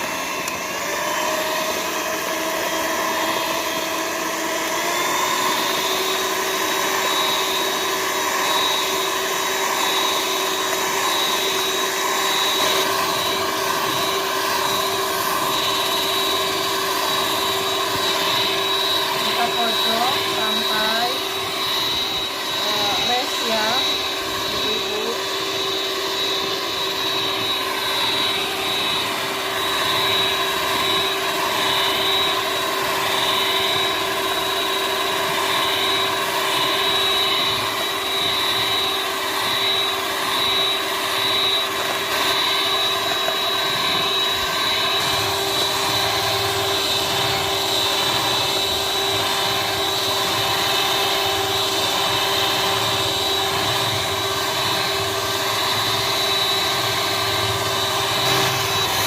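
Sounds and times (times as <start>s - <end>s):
electric mixer whining: 0.0s - 59.0s.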